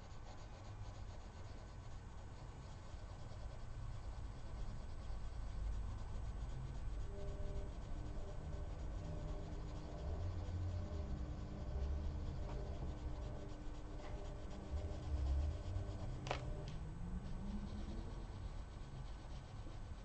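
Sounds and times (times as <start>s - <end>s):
coloured pencil shading on paper: 0.0s - 20.0s.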